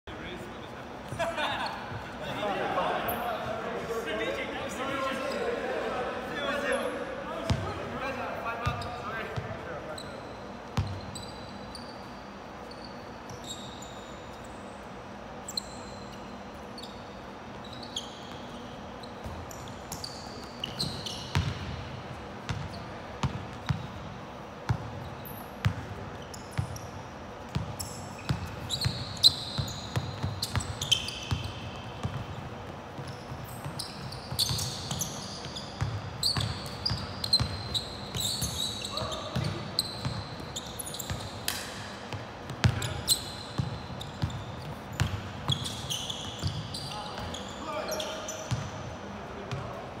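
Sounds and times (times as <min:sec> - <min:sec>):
sneakers squeaking on floor: 0:00.2 - 0:50.0.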